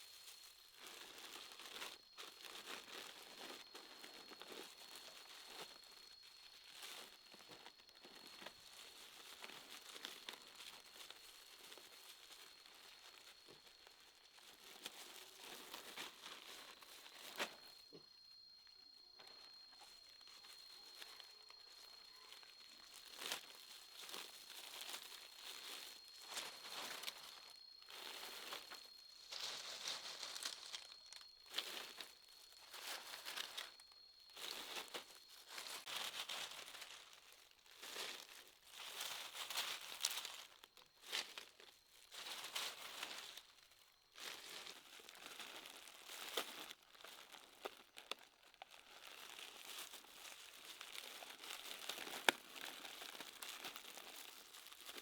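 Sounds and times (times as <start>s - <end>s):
faint high whine: 0.0s - 45.8s
crinkling and rustling handling noise: 0.0s - 55.0s.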